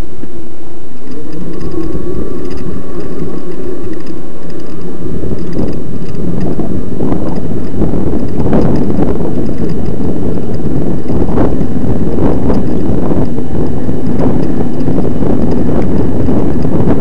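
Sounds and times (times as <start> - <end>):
bike rumble and rattle: 0.0 - 17.0
faint motor whine: 0.0 - 17.0
wind buffeting microphone: 0.0 - 17.0.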